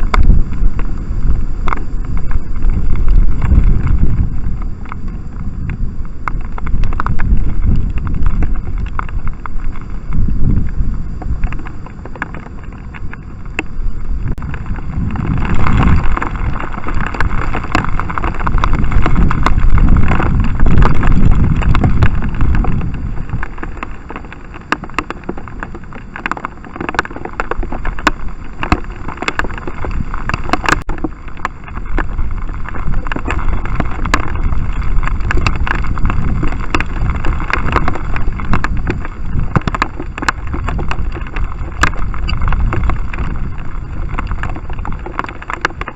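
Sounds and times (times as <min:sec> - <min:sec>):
rain drops ticking on housing: 0:00.0 - 0:45.9
storm wind buffeting microphone: 0:00.0 - 0:45.9.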